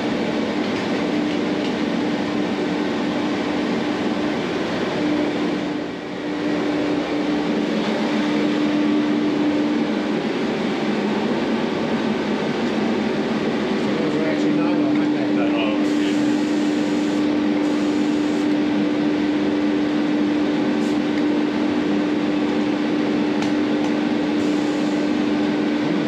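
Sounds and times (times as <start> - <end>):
workshop machinery drone: 0.0 - 26.0.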